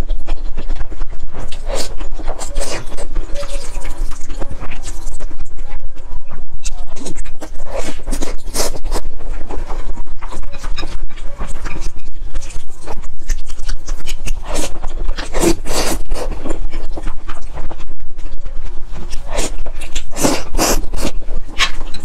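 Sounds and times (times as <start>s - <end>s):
wet chewing and slurping noodles: 1.4s - 5.6s, 6.6s - 22.0s.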